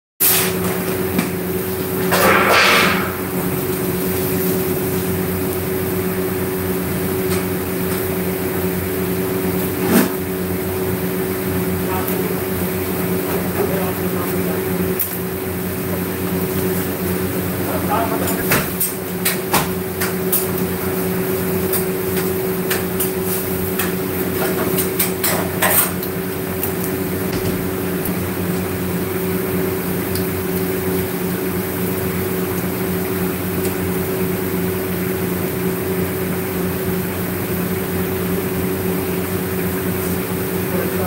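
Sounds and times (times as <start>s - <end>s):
machine hum: 0.6s - 41.0s.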